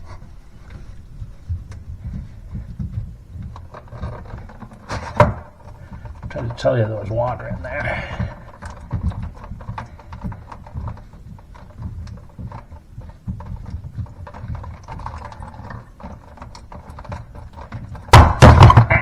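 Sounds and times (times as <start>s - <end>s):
plastic drain trap clicking and knocking: 2.9s - 19.0s.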